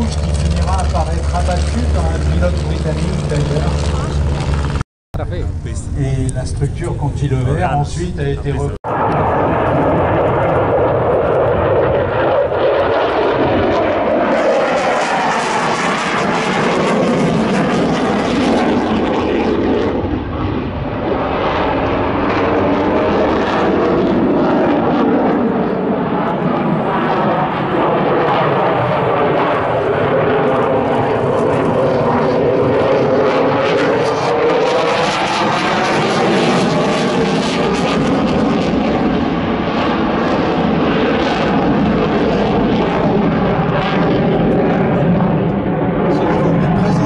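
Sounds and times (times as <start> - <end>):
fighter jet roaring: 0.0 - 47.0.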